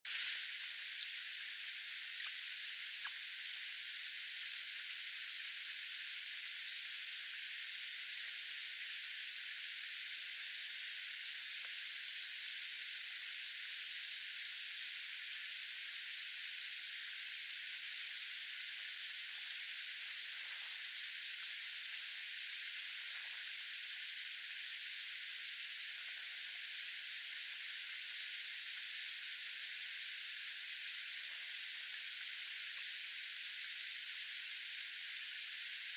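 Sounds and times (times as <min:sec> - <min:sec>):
steady high hiss: 0:00.1 - 0:35.9.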